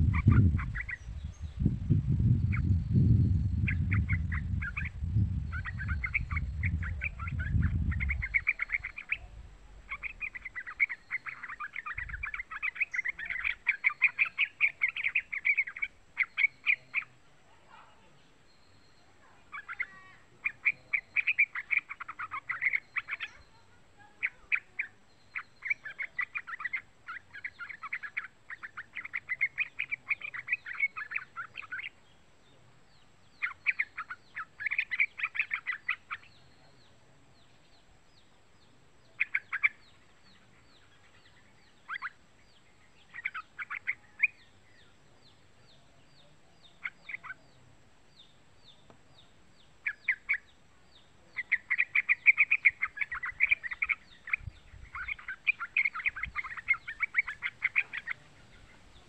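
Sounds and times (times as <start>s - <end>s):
bird chattering calls: 0.0s - 17.2s, 18.5s - 32.0s, 33.4s - 36.6s, 39.1s - 42.2s, 43.0s - 44.9s, 46.6s - 47.6s, 49.8s - 50.6s, 51.4s - 59.0s.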